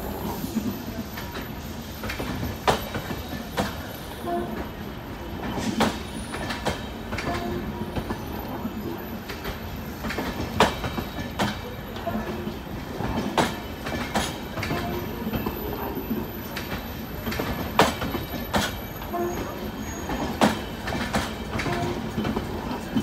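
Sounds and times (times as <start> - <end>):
train rumble: 0.0 - 23.0
train wheels clacking over rail joints: 0.5 - 23.0.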